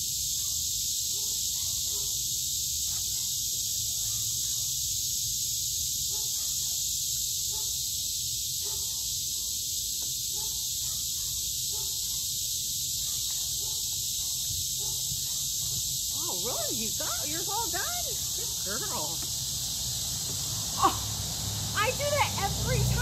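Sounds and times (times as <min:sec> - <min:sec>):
insect chorus hissing: 0:00.0 - 0:23.0.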